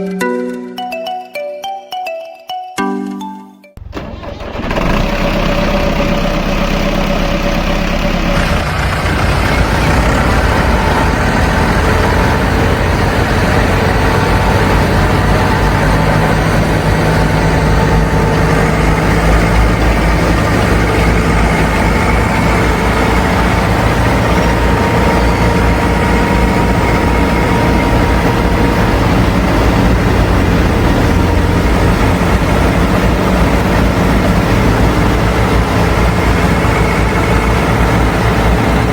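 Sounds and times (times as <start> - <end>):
tractor engine idling: 3.8 - 38.9.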